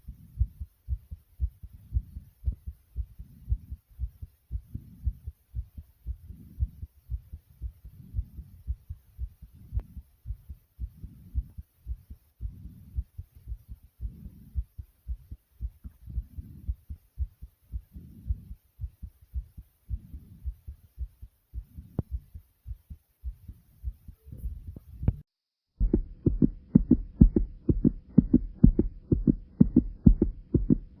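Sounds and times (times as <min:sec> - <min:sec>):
racing heartbeat thumps: 0:00.0 - 0:25.2, 0:25.8 - 0:31.0.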